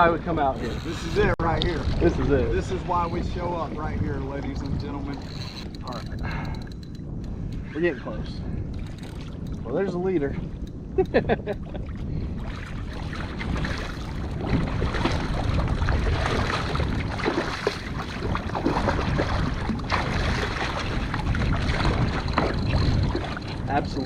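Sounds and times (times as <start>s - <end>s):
water splashing around kayak: 0.0s - 24.0s
wind on microphone: 0.0s - 24.0s.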